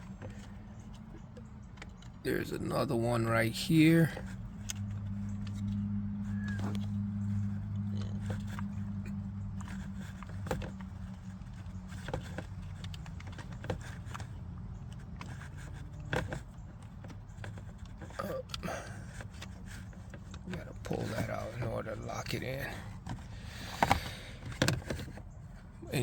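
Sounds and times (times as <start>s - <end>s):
steady low hum: 0.0s - 26.0s
plastic parts clicking: 4.1s - 25.4s.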